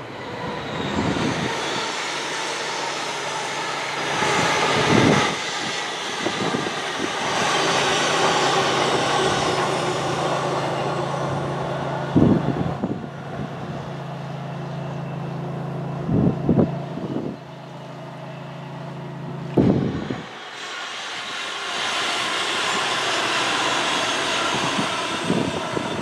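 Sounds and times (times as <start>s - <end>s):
wind buffeting microphone: 0.0s - 14.2s, 16.0s - 17.5s, 19.2s - 26.0s
train passing at speed: 0.0s - 26.0s.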